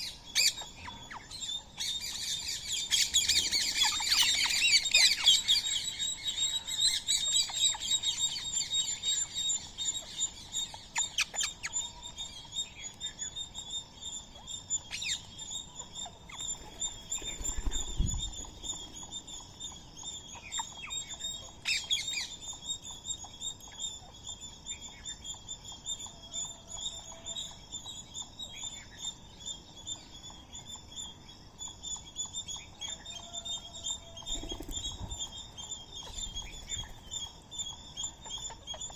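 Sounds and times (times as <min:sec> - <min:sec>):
birds chirping: 0:00.0 - 0:38.9
sharp loud bird calls: 0:00.0 - 0:38.9.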